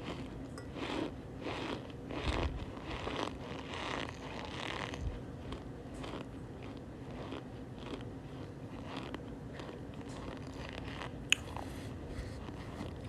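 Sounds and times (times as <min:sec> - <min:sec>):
cornstarch crunching: 0:00.0 - 0:11.7.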